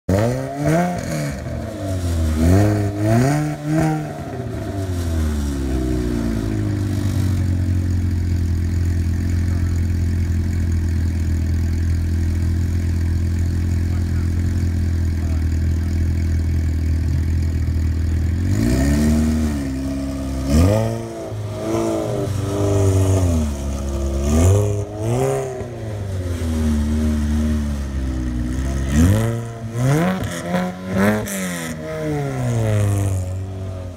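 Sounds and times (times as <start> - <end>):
car engine revving and idling: 0.1 - 33.9.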